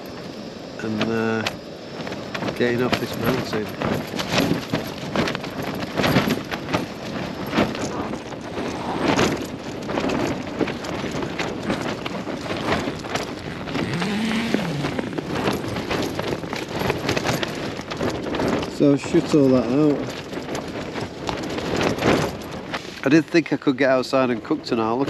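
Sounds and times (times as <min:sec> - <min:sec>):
strong gusting wind: 0:00.0 - 0:25.0
tent fabric flapping: 0:02.0 - 0:25.0.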